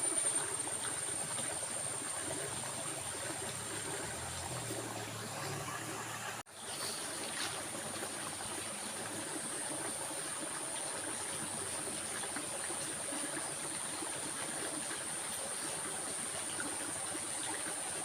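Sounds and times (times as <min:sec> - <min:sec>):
stream running: 0:00.0 - 0:18.0.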